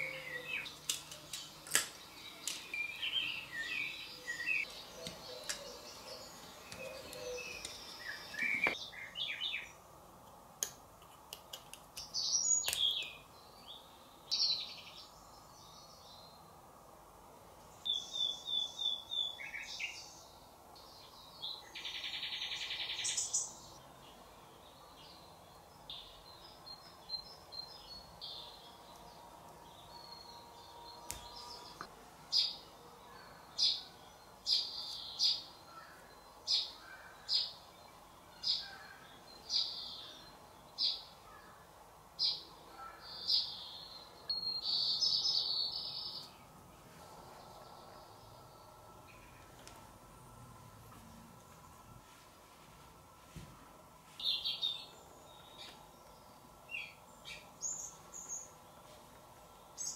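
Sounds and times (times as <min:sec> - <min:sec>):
small birds chirping: 0:00.0 - 0:09.8, 0:12.0 - 0:16.6, 0:17.7 - 0:49.7, 0:54.1 - 0:59.9.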